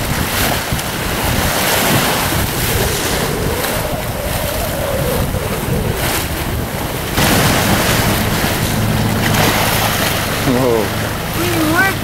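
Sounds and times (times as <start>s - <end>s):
sea water rushing along hull: 0.0s - 12.0s
wind buffeting microphone: 0.0s - 12.0s.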